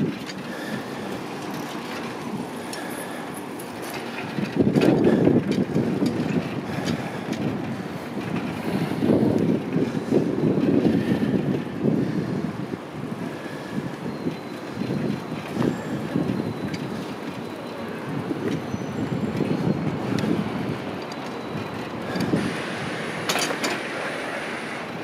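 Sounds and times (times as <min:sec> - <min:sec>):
low rumble of bicycle ride: 0:00.0 - 0:25.0
wind buffeting microphone: 0:00.0 - 0:25.0.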